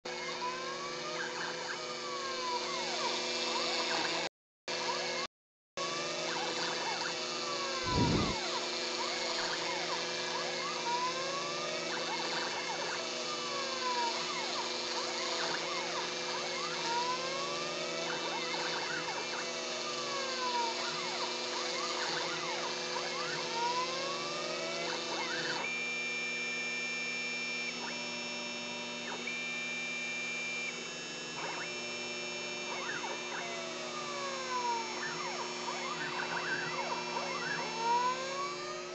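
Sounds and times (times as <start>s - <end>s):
mechanical hum: 0.1s - 38.9s
stepper motors whining: 0.1s - 38.9s.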